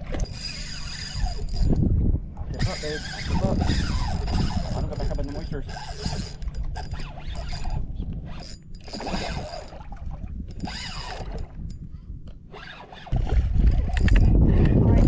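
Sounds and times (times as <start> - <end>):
fishing reel clicking and whirring: 0.0 - 1.9, 2.5 - 9.9, 10.5 - 14.8.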